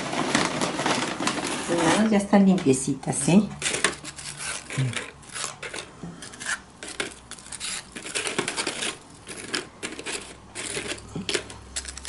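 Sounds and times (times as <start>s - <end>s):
tortilla chips rustling and clicking: 0.0s - 2.7s, 3.6s - 12.0s.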